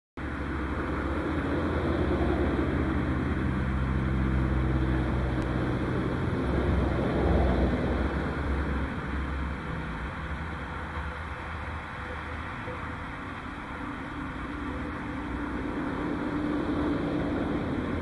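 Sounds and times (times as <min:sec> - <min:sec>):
vehicle engine running: 0:00.2 - 0:18.0.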